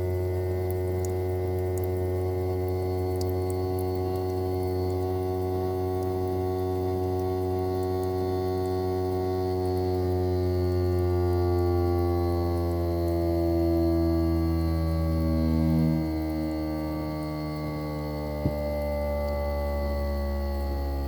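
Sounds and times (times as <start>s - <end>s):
air conditioner compressor hum: 0.0s - 21.0s.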